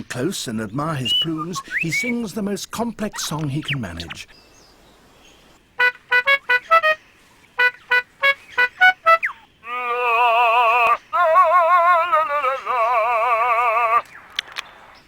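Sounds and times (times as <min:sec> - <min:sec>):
lyrebird singing: 0:00.0 - 0:15.0.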